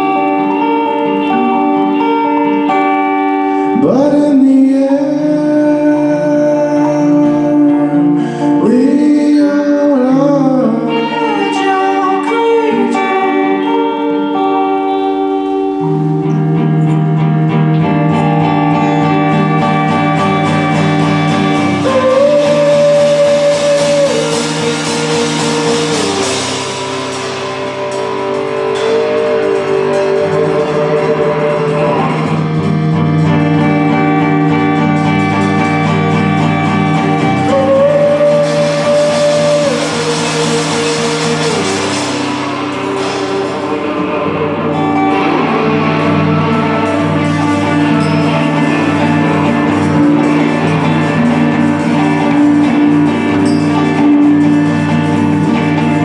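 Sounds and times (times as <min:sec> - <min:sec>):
live band with guitar: 0:00.0 - 0:56.0.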